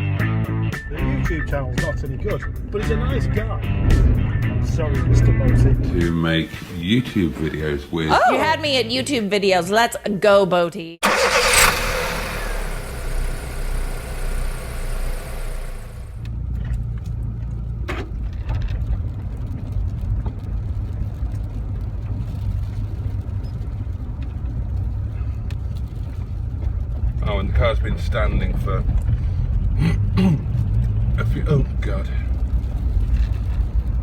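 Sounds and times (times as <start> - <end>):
car engine low rumble: 0.6 - 6.4, 11.0 - 34.0.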